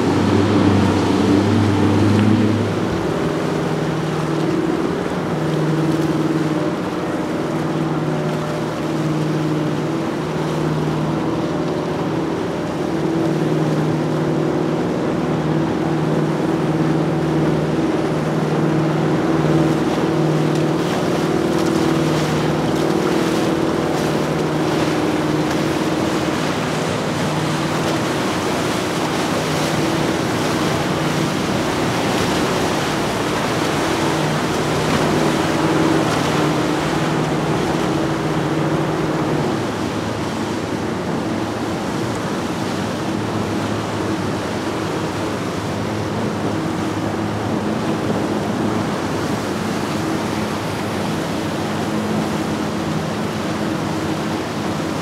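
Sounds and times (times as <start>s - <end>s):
jet boat running by: 0.0s - 55.0s
outboard engines droning: 0.0s - 55.0s
water rushing off hull: 0.0s - 55.0s.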